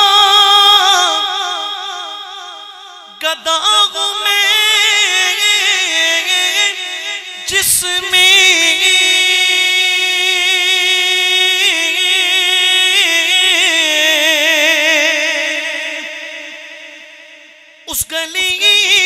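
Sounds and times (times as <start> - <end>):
man singing unaccompanied: 0.0 - 17.0, 17.8 - 19.0.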